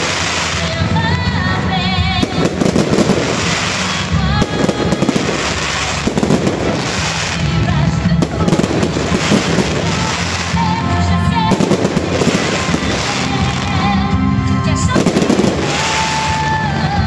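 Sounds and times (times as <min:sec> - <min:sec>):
fireworks bangs and crackling: 0:00.0 - 0:17.0
music over loudspeakers: 0:00.0 - 0:17.0.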